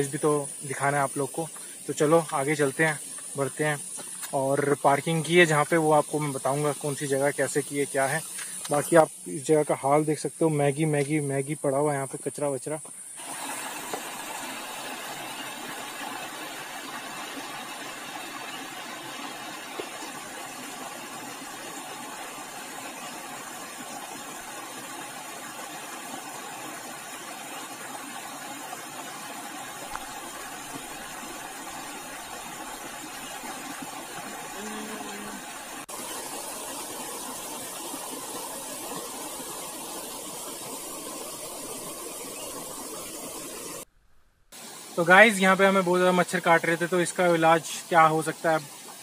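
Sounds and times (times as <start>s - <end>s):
outdoor ambient hiss: 0.0s - 49.0s.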